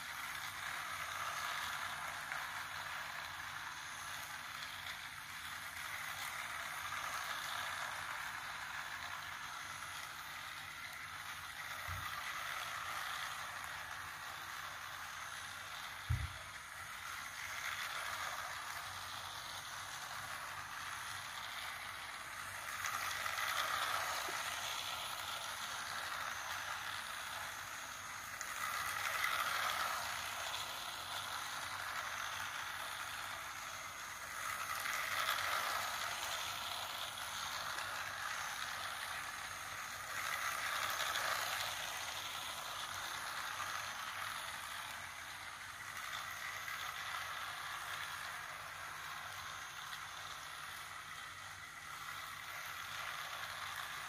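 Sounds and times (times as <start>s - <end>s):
toy train rattling whir: 0.0s - 54.0s.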